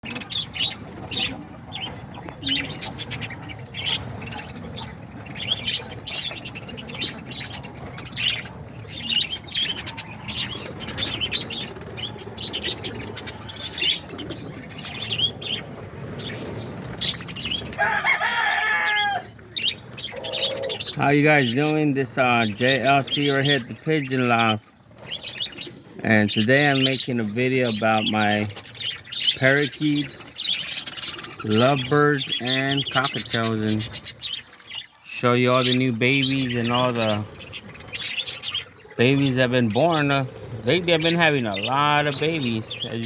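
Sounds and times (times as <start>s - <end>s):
parrots chirping and chattering: 0.0s - 43.0s.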